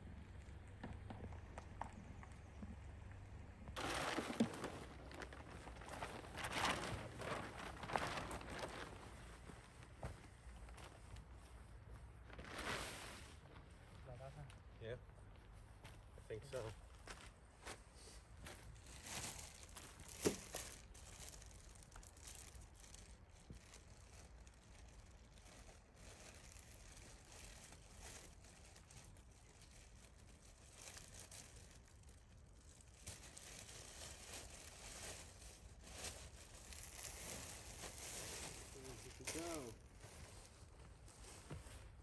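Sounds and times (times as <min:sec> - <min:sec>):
rustling handling noise: 0:01.0 - 0:14.0, 0:18.4 - 0:42.0.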